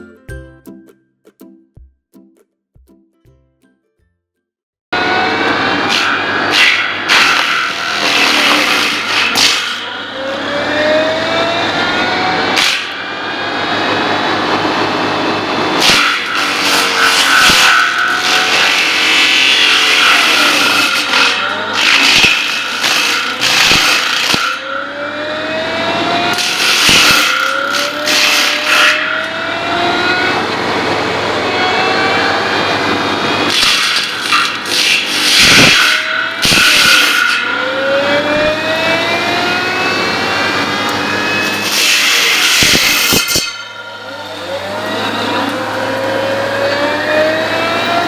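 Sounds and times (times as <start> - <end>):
engine revving: 5.0 - 42.8, 43.9 - 48.0.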